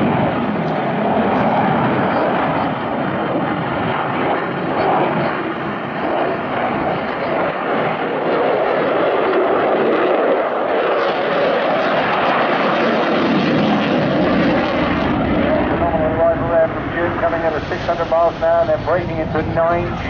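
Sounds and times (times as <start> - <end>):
fighter jet flypast roar: 0.0 - 20.0.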